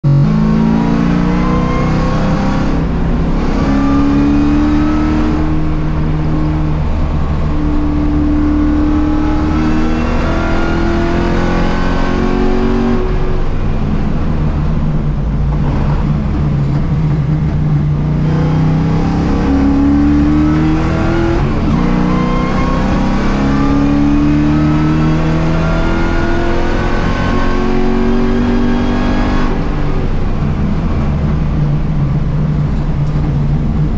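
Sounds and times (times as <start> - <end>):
race car engine accelerating: 0.1 - 33.9.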